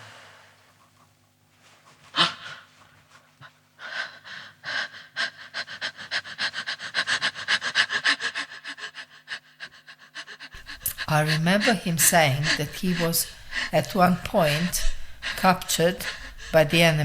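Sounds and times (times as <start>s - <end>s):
person panting: 2.1s - 17.0s.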